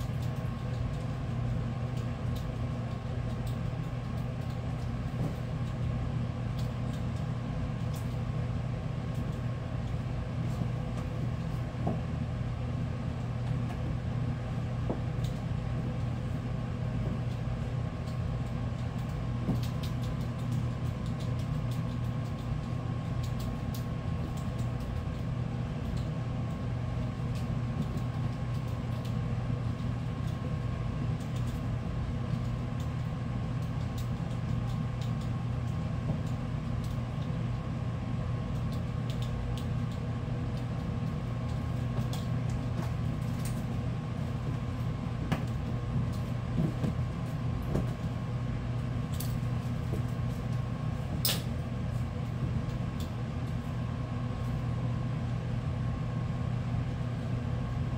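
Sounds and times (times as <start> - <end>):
low mechanical hum with whine: 0.0 - 57.9.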